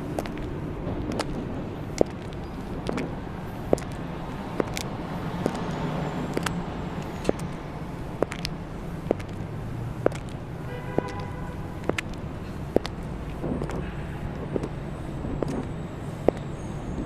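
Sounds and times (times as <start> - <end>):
high heels clicking on pavement: 0.0 - 16.6
passing car traffic rumble: 0.0 - 17.0.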